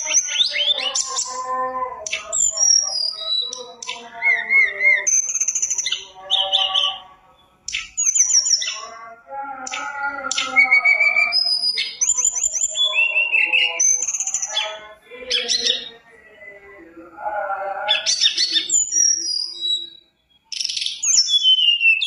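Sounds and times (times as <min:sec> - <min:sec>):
flycatcher singing whistles and trills: 0:00.0 - 0:09.0, 0:09.6 - 0:16.5, 0:17.9 - 0:22.0.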